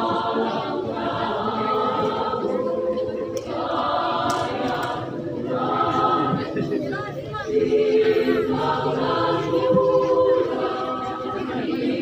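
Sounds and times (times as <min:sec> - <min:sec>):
women's choir singing: 0:00.0 - 0:12.0.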